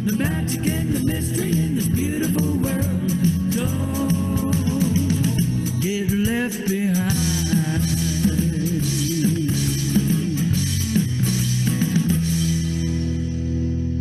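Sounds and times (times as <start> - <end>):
drum kit: 0.0 - 14.0
rock guitar: 0.0 - 14.0.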